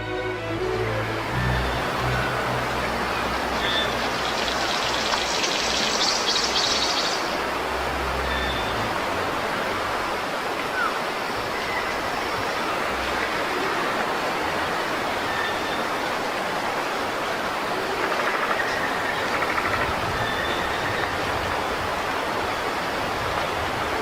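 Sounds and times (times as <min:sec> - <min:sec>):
rushing outdoor ambience: 0:00.0 - 0:24.0.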